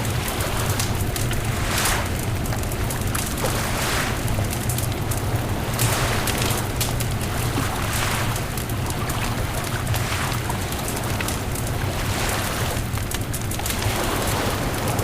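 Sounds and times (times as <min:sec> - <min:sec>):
bonfire crackling and popping: 0:00.0 - 0:15.0
wind: 0:00.0 - 0:15.0
surf: 0:00.1 - 0:02.2, 0:03.1 - 0:13.0.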